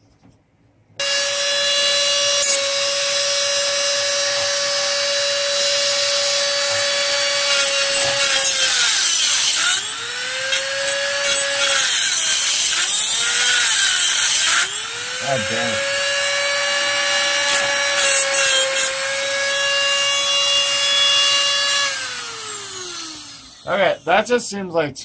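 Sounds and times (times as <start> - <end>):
cutoff wheel cutting steel: 1.0 - 24.1
rotary tool whining: 1.0 - 24.1.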